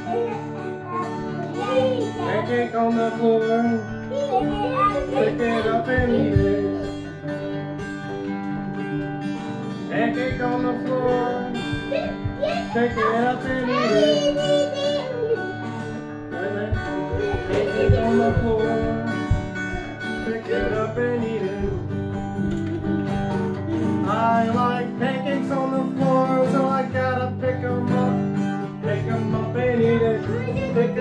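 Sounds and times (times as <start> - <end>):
person singing: 0.0 - 7.7, 9.8 - 31.0
acoustic guitar strumming: 0.0 - 31.0.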